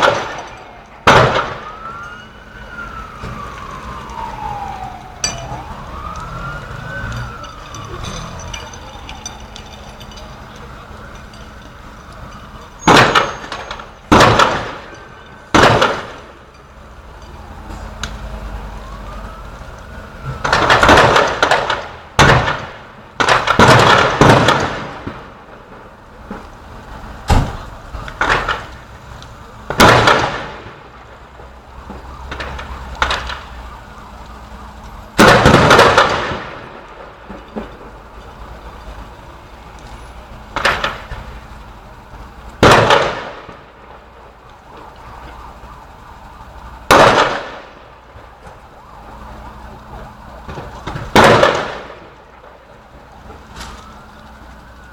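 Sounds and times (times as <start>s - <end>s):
siren wailing: 0.0s - 23.0s, 27.9s - 54.9s.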